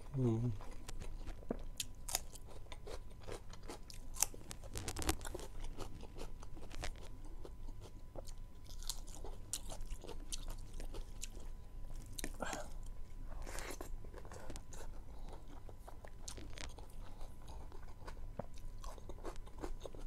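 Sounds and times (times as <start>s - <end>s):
person chewing crunchy cucumber: 0.0s - 20.0s.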